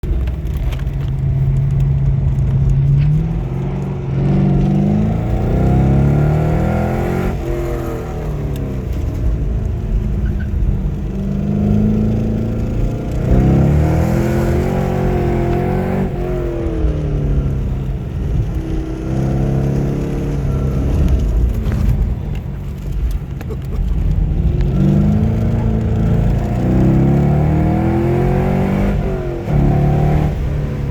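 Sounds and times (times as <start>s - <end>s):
car engine accelerating hard: 0.0s - 30.9s.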